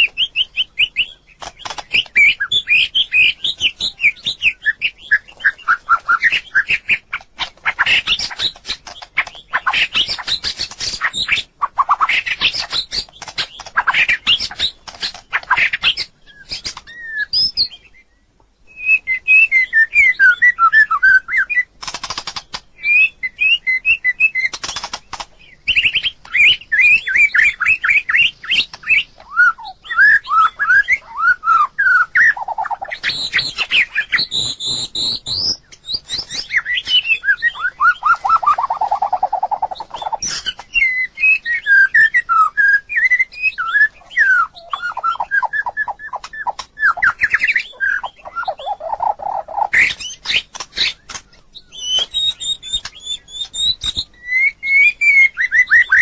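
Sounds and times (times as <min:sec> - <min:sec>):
bird singing varied song: 0:00.0 - 0:56.0.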